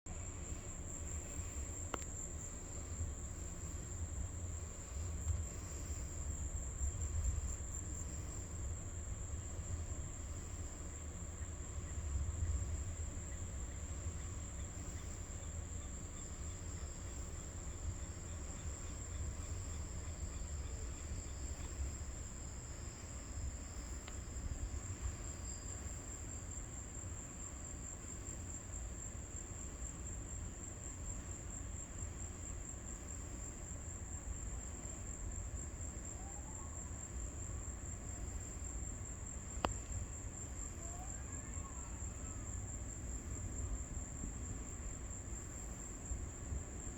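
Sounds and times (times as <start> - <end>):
crickets chirping: 0.1 - 46.9.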